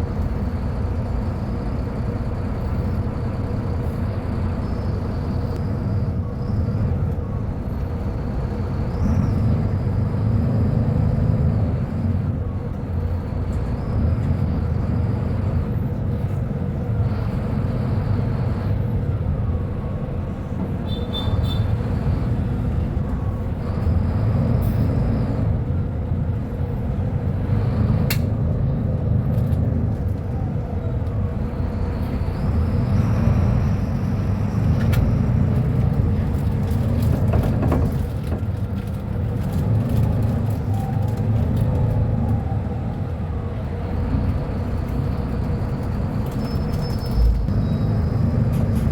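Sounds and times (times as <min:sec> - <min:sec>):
bus engine rumble: 0:00.0 - 0:48.9.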